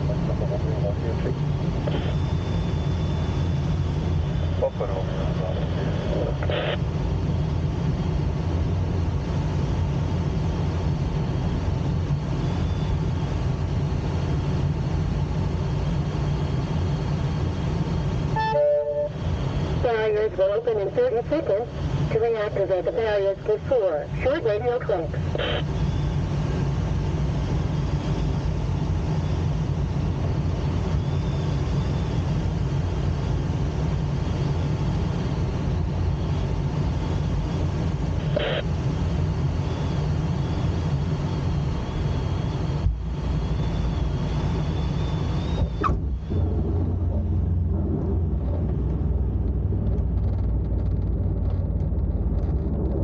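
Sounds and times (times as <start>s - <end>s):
cockpit rumble and airflow: 0.0s - 53.0s.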